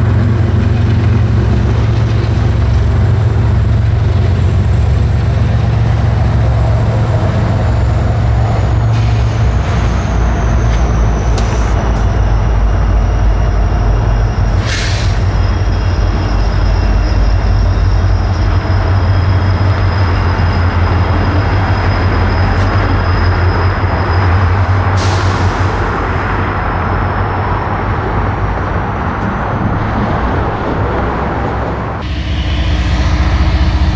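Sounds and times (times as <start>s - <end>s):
freight train rumbling on rails: 0.0s - 33.9s
high squeal: 3.6s - 31.3s, 32.0s - 33.9s.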